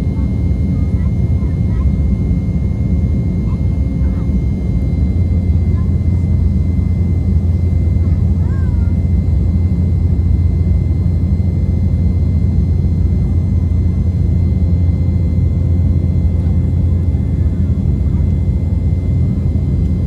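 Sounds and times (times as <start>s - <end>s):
faint steady whines: 0.0s - 20.0s
jet engine cabin rumble: 0.0s - 20.0s.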